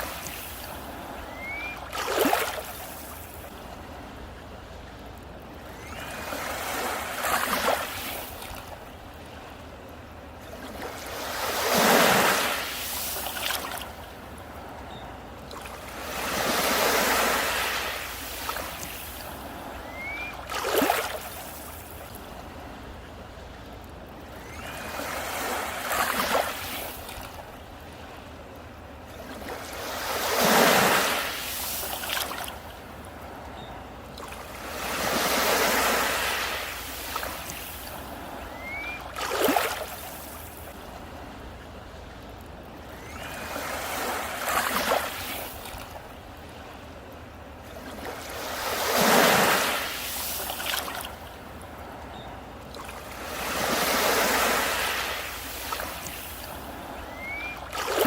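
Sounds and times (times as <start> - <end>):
sea waves breaking on beach: 0.0 - 58.0.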